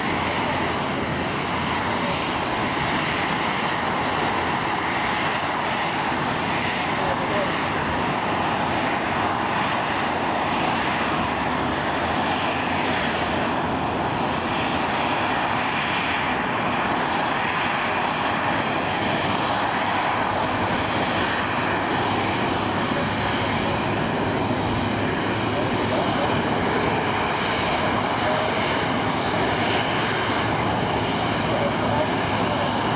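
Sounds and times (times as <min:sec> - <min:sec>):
jet airliner flying past: 0:00.0 - 0:32.9.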